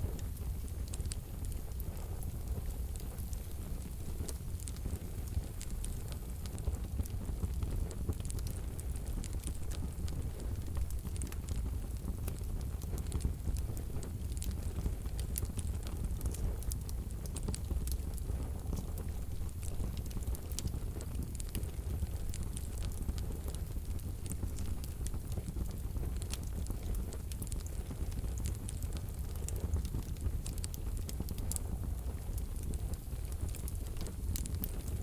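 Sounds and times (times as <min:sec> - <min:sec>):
wood fire crackling in stove: 0:00.0 - 0:35.0.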